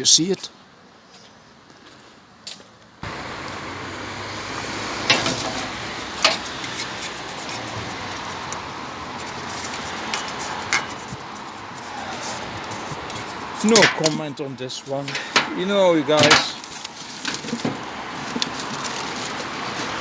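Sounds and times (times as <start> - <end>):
road traffic noise: 2.2 - 20.0.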